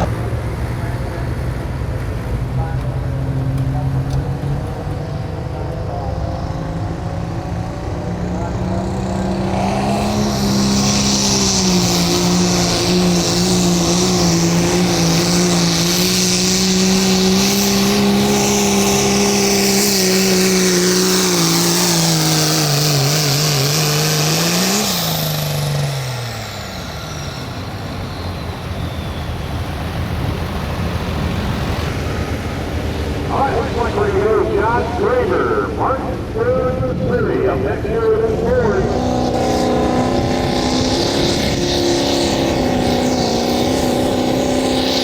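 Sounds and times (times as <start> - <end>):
diesel truck engine at high revs: 0.0 - 45.0.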